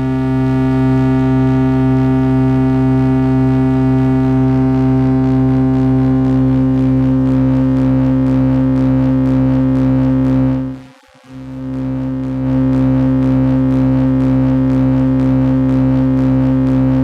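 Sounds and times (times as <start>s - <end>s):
buzzy synthesizer drone: 0.0s - 17.0s.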